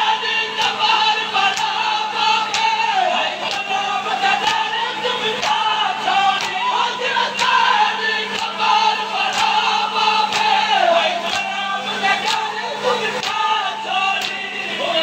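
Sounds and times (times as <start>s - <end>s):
crowd singing along: 0.0s - 15.0s
man singing a lament: 0.0s - 15.0s
rhythmic chest beating: 0.0s - 15.0s.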